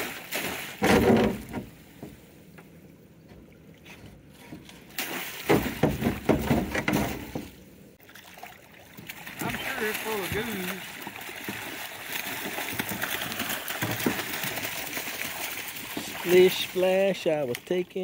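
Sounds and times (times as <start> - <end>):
water splashing through a net: 0.0 - 1.7, 4.9 - 17.8.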